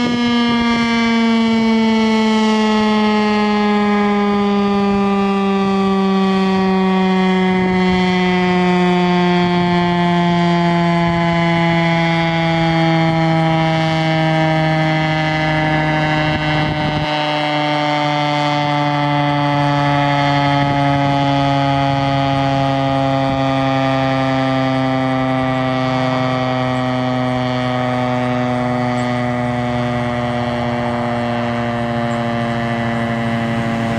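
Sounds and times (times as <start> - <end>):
warning siren winding down: 0.0 - 33.9.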